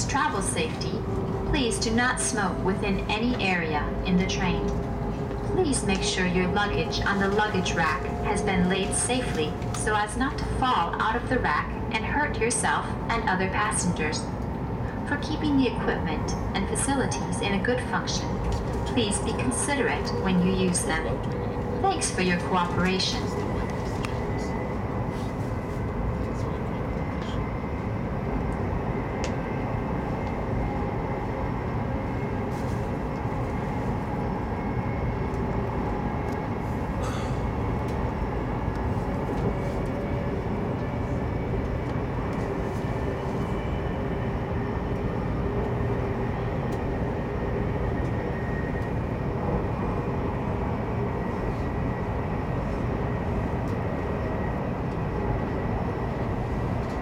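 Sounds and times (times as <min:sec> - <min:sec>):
train cabin low rumble: 0:00.0 - 0:57.0.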